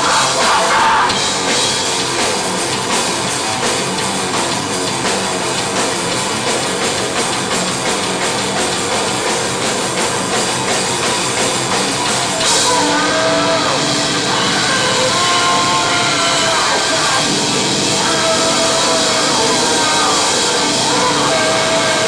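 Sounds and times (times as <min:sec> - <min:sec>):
drum kit pounding: 0:00.0 - 0:22.0
live metal band playing: 0:00.0 - 0:22.0.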